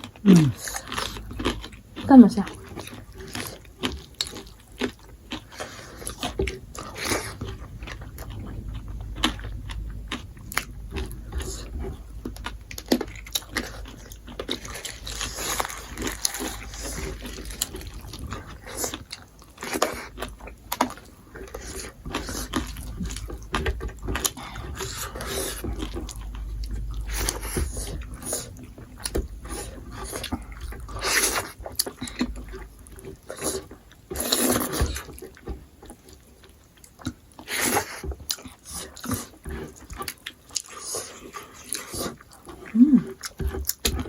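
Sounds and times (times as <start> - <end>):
chewing and biting meat: 0.0 - 44.0.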